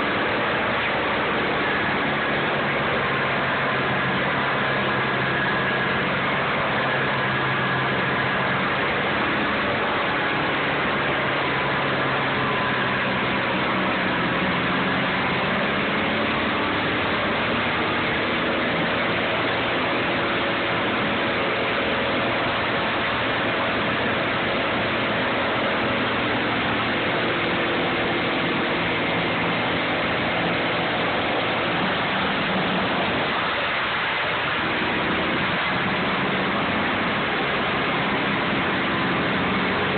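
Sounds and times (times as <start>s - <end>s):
dense rushing noise: 0.0s - 39.9s
wood chipper engine drone: 0.0s - 39.9s.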